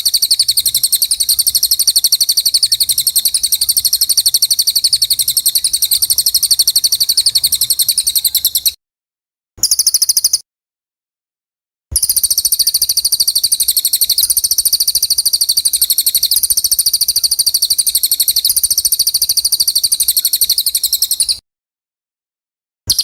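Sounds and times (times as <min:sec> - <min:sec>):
songbird high-pitched trill: 0:00.0 - 0:08.8, 0:09.6 - 0:10.4, 0:12.0 - 0:21.4.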